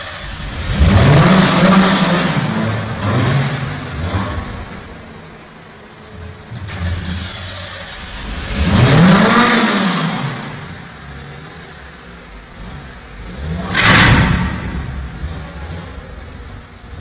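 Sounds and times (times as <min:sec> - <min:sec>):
low engine background: 0:00.0 - 0:17.0
vehicle engine revving: 0:00.0 - 0:17.0.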